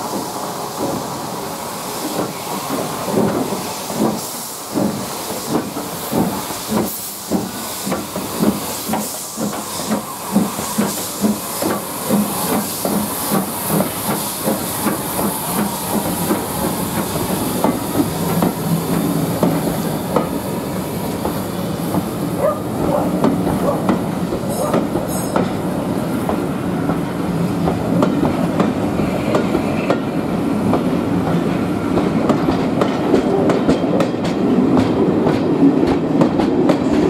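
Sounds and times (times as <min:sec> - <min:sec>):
steam hiss from locomotive: 0:00.0 - 0:32.2.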